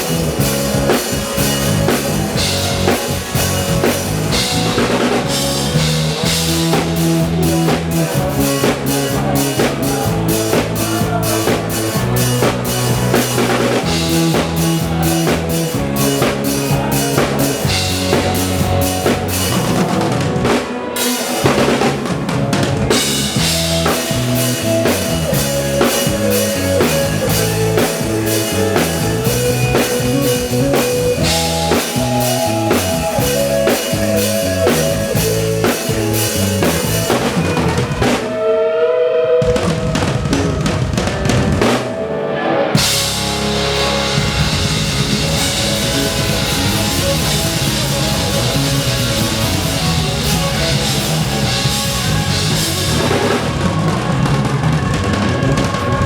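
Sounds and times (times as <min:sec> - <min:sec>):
drum kit beat: 0:00.0 - 0:38.4, 0:39.4 - 0:42.1, 0:42.8 - 0:56.0
live band playing: 0:00.0 - 0:56.0.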